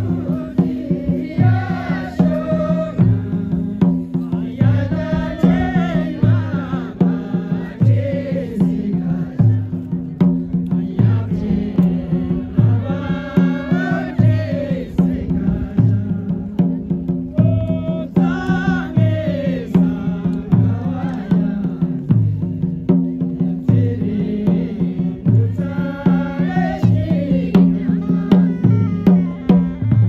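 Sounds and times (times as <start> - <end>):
slow drum beat: 0.0 - 30.0.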